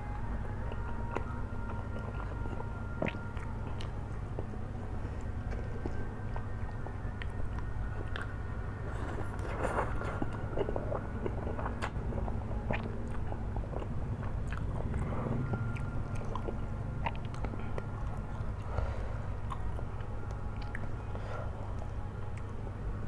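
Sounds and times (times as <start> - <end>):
wet chewing of noodles: 0.0 - 22.8
steady low hum: 0.0 - 23.0.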